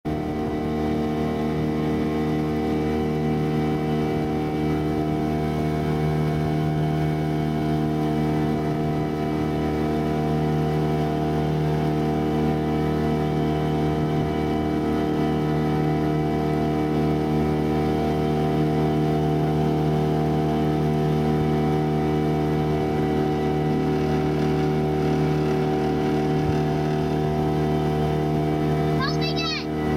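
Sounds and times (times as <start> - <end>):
outboard motor running: 0.1 - 29.9.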